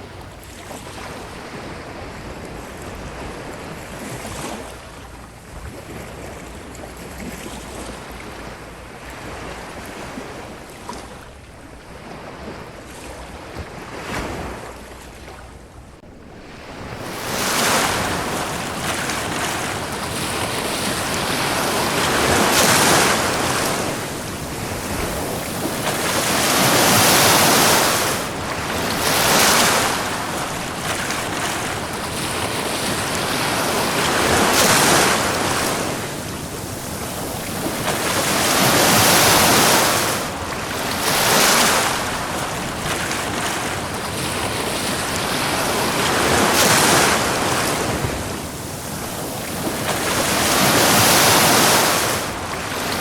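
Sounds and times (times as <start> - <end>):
waves breaking on sandy shore: 0.0 - 53.0.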